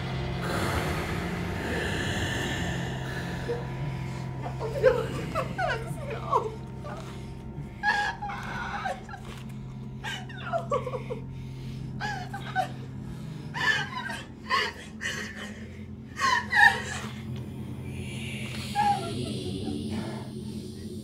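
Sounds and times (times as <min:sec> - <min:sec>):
low steady hum: 0:00.0 - 0:21.0
woman sobbing and wailing: 0:00.4 - 0:20.8.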